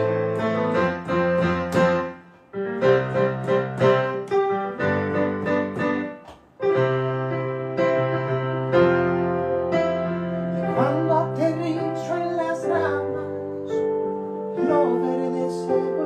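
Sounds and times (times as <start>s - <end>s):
piano playing sustained chords: 0.0s - 16.0s.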